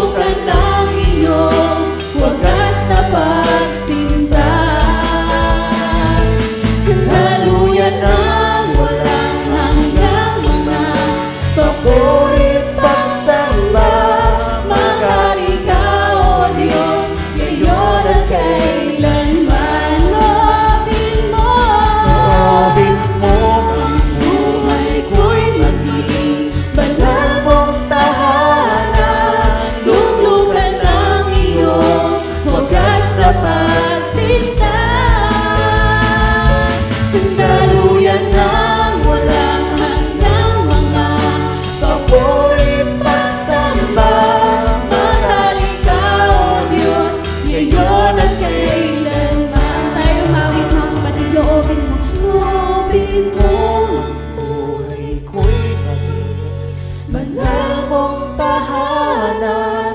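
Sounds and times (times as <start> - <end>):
electric guitars: 0.0 - 58.6
keyboard: 0.0 - 59.9
voices singing together: 0.0 - 59.9.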